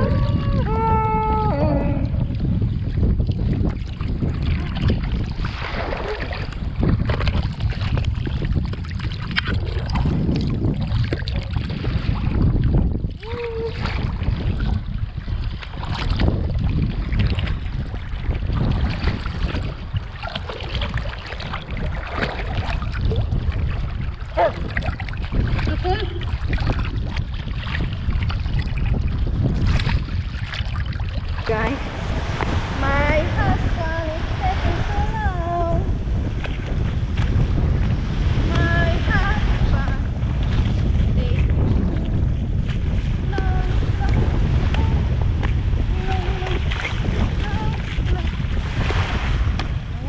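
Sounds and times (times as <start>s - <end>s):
low rumble: 0.0s - 50.0s
wind on microphone: 0.0s - 50.0s.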